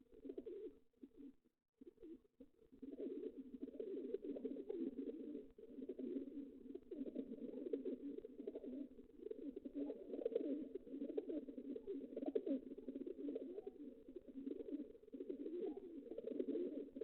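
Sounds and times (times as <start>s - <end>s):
pigeons cooing: 3.0s - 17.0s.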